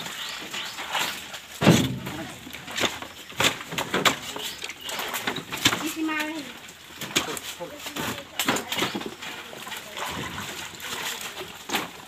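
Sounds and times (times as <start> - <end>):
thuds and cracks of banana bunches: 0.0 - 12.0.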